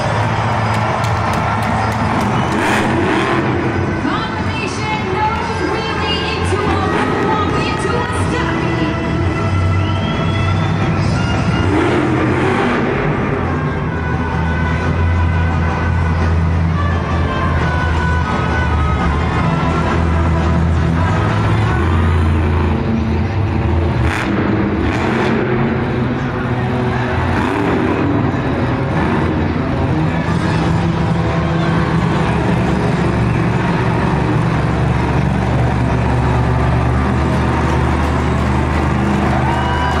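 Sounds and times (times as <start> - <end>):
monster truck engine running hard: 0.0 - 40.0.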